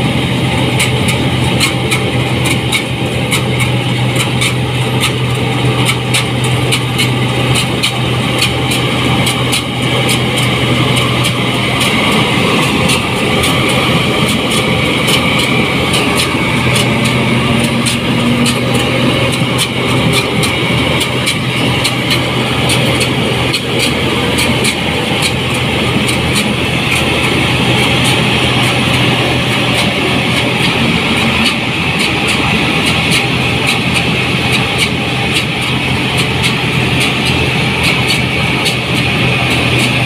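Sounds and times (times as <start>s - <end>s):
combine harvester engine drone: 0.0s - 40.0s
sharp clicks and rattles: 0.1s - 40.0s.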